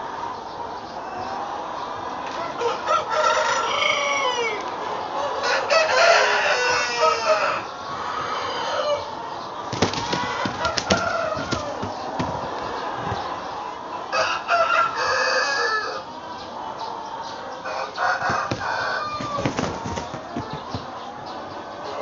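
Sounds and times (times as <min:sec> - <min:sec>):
hens clucking: 0:00.0 - 0:22.0
roosters crowing: 0:01.0 - 0:16.2, 0:17.2 - 0:22.0.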